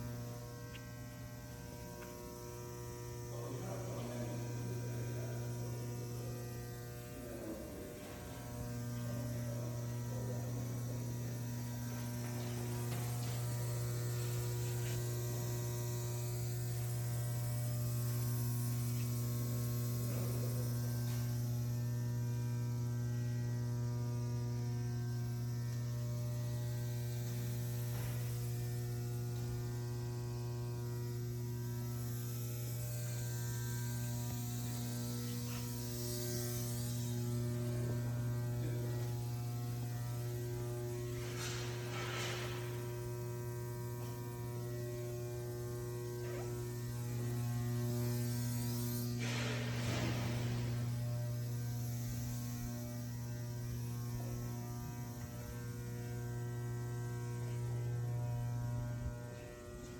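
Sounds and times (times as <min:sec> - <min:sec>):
electrical machine hum: 0:00.0 - 0:59.9.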